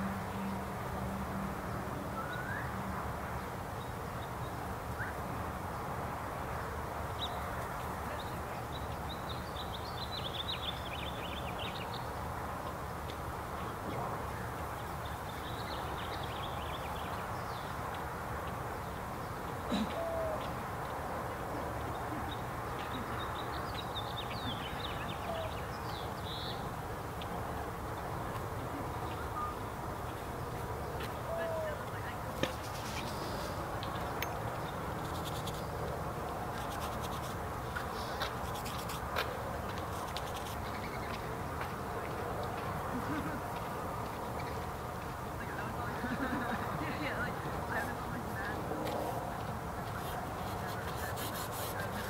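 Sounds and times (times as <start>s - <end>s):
songbirds chirping: 0.1s - 52.0s.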